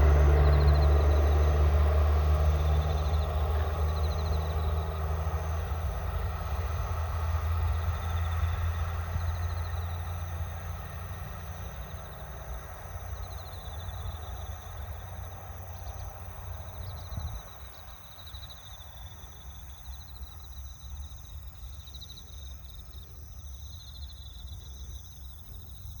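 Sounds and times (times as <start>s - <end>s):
diesel train rumbling: 0.0s - 21.8s
insects chirping in trills: 0.0s - 26.0s.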